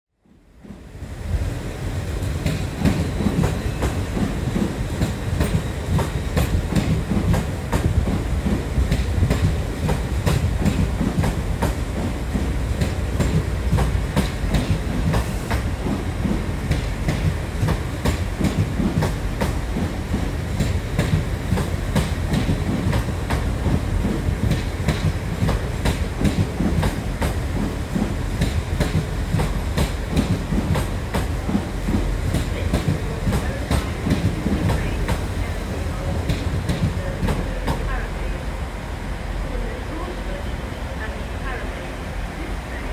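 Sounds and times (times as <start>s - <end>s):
train rumbling: 0.2s - 42.9s.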